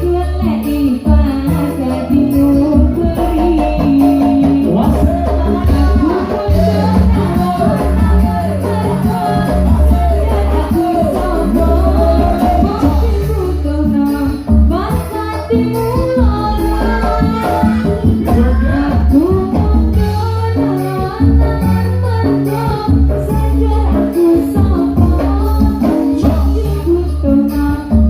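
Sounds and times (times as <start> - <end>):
live electronic organ band music: 0.0 - 28.0.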